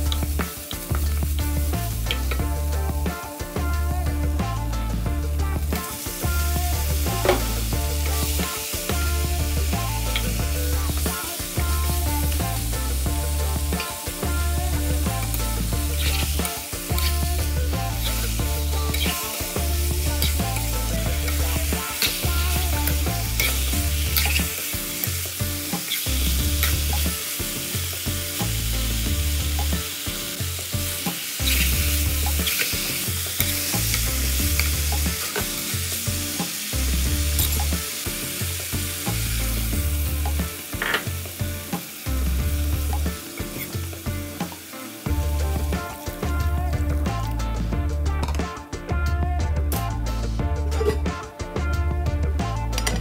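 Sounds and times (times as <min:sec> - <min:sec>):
fish sizzling in a wok: 0:00.0 - 0:48.9.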